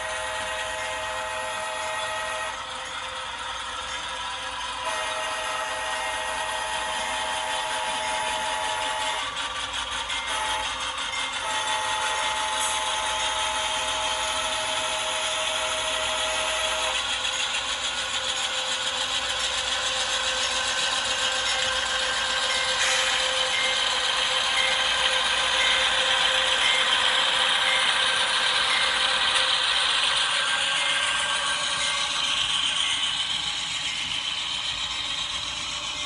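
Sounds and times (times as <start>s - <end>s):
model train wheels clattering: 0.0s - 36.0s.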